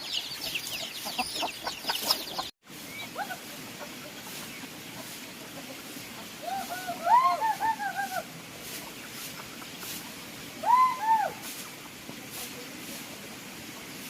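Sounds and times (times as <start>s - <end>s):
chickens calling: 0.0s - 14.0s
outdoor background hiss: 0.0s - 14.0s.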